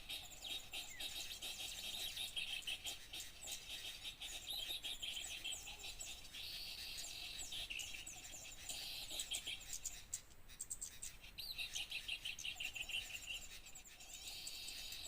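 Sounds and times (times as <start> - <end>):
songbirds chirping and twittering: 0.0 - 15.0.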